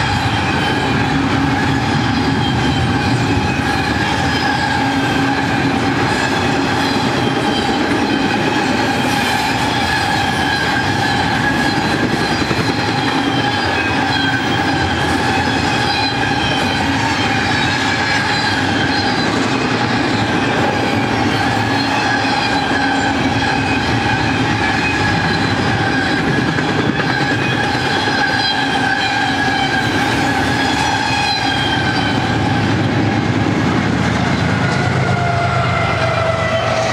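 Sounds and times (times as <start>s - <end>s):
diesel locomotive engine rumble: 0.0s - 36.9s
rumble and clatter of wheels: 0.0s - 36.9s
train wheels squealing on rail: 0.0s - 36.9s.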